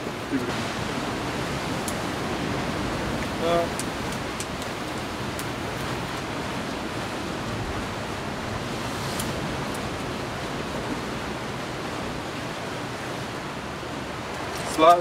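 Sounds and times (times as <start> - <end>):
ocean surf against cliff: 0.0 - 15.0.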